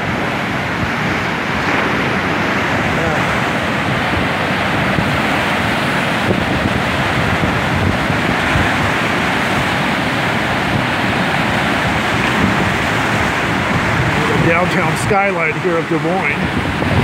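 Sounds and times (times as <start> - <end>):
river water rushing over weir: 0.0 - 17.0.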